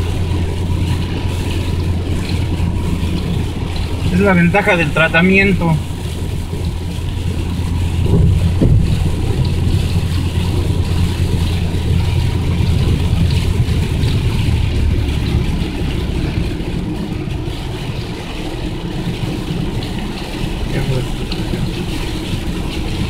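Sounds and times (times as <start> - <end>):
engine and tyre rumble: 0.0 - 23.0.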